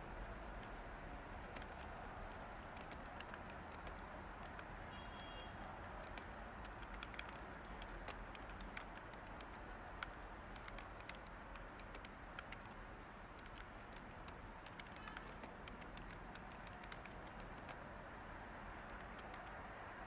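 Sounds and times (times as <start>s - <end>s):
white-noise hiss: 0.0s - 20.0s
keyboard typing clicks: 1.4s - 4.8s, 5.8s - 17.8s, 18.8s - 19.6s.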